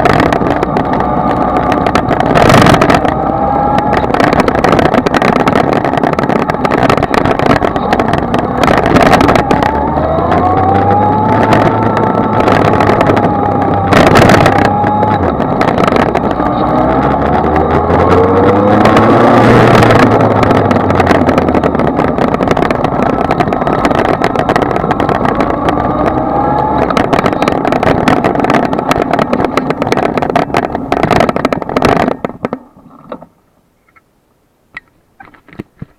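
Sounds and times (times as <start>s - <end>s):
motorcycle engine running: 0.0s - 33.3s
wind noise: 0.0s - 34.1s, 34.7s - 35.9s.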